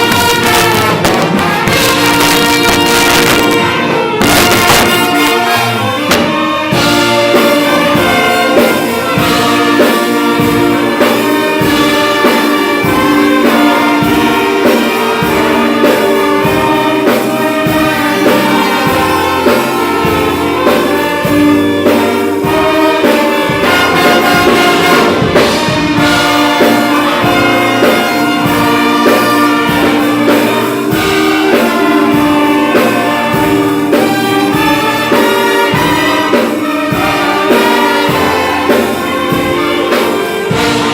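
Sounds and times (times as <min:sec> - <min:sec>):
brass-led orchestra playing: 0:00.0 - 0:40.9
percussion strokes: 0:00.0 - 0:40.9
trumpets and trombones: 0:00.0 - 0:40.9.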